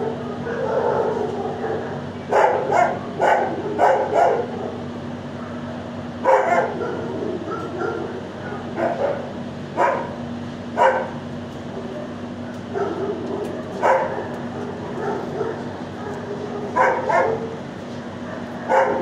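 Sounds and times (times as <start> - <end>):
dogs barking: 0.0 - 19.0
steady low hum: 0.0 - 19.0.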